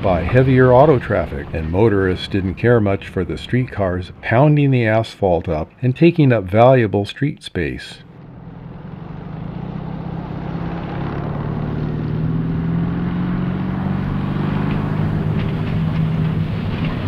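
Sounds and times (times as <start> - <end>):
streetcar motor hum: 0.0 - 17.0.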